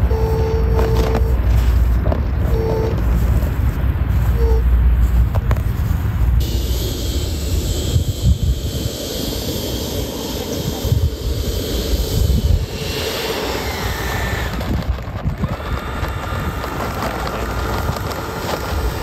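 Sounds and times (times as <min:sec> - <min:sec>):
electric ducted fans whining: 0:00.0 - 0:19.0
wind buffeting microphone: 0:00.0 - 0:19.0.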